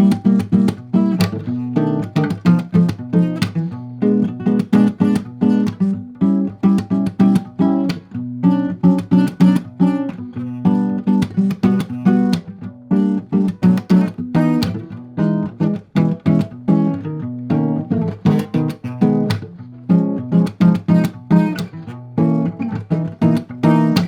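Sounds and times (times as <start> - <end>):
guitar strumming chords: 0.0 - 24.0.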